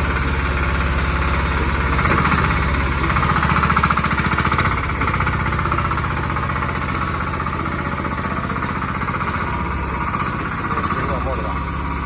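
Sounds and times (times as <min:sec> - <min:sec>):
mini excavator engine pulsing: 0:00.0 - 0:12.0.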